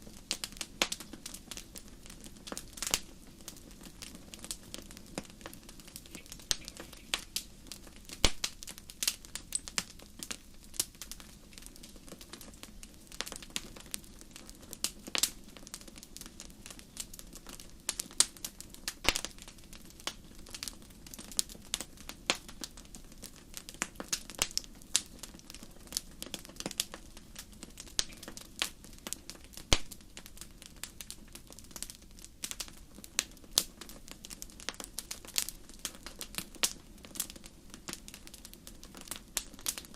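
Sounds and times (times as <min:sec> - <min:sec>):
logs crackling and popping: 0:00.0 - 0:39.9
low hiss of flames: 0:00.0 - 0:39.9.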